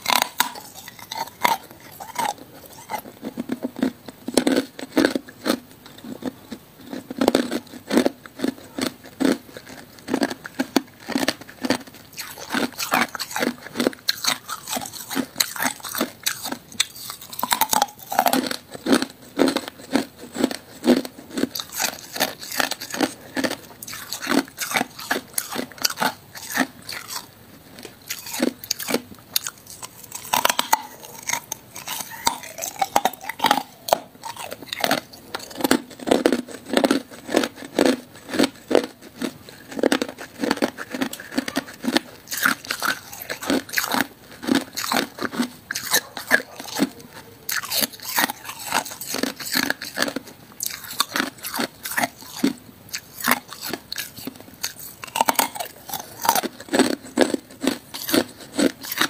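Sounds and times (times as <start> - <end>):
person crunching ice: 0.0 - 59.0.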